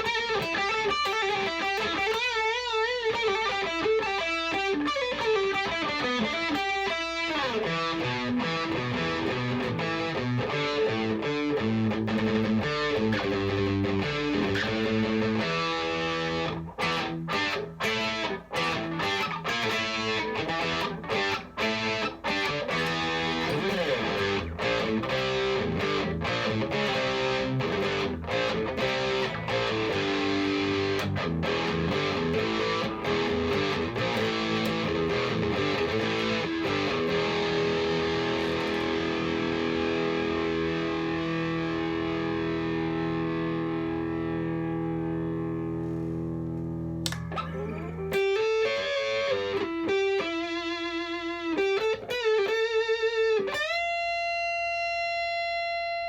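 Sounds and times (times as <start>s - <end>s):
electric guitar through amplifier: 0.0s - 56.0s.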